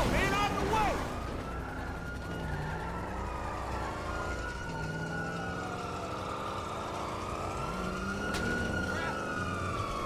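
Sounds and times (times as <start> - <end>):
video game police sirens wailing: 0.0 - 10.0.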